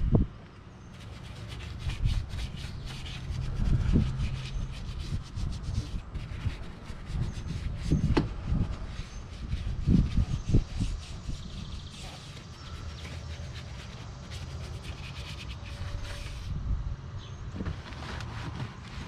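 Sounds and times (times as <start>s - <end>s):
brush scrubbing: 0.9s - 16.5s.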